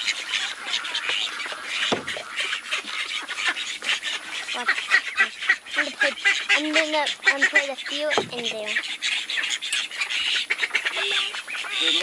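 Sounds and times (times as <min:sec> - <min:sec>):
chickens clucking: 0:00.0 - 0:12.0
honking calls: 0:00.0 - 0:12.0.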